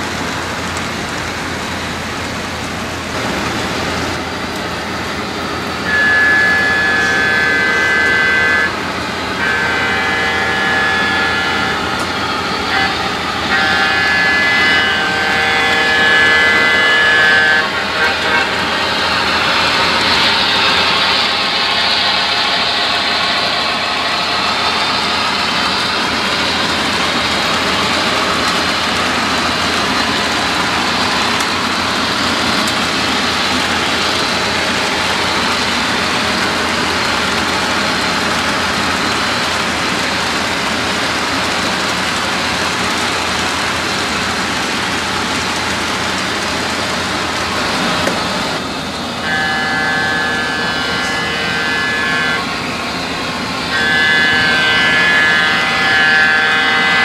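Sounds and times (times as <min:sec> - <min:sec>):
train wheels rushing on rails: 0:00.0 - 0:57.0
model train horn chord: 0:04.2 - 0:46.3, 0:46.9 - 0:57.0.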